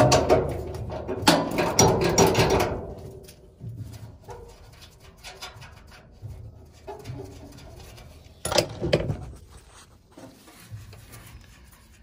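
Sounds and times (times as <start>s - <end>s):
light knocks and scraping: 0.0s - 12.0s.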